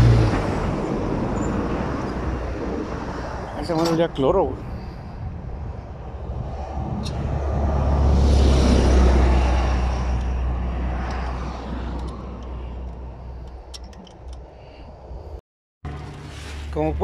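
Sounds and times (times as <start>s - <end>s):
vehicle passing on highway: 0.0s - 3.6s, 4.4s - 15.2s.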